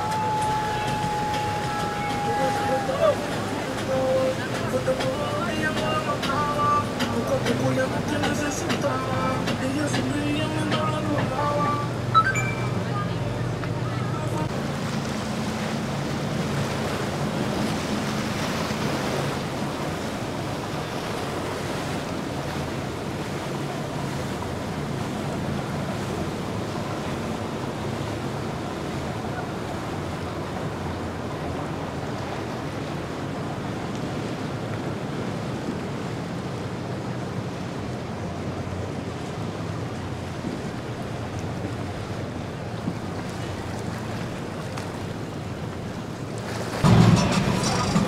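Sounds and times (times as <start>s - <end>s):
boat engines running: 0.0s - 48.0s
rushing water: 0.0s - 48.0s.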